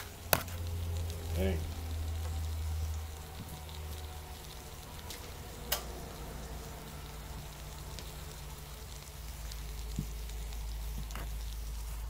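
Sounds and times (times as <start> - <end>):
sharp crackle: 0.0 - 12.0
steady low hum: 0.0 - 12.0
water sizzling and ticking: 0.0 - 12.0.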